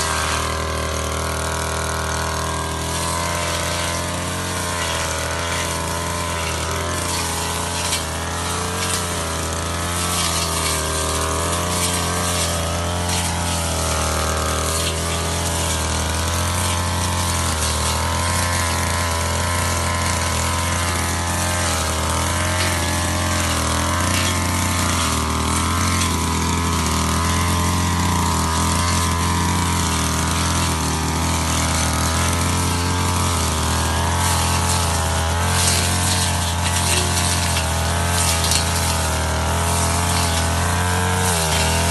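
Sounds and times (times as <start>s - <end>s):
brush cutter running at high revs: 0.0s - 41.9s.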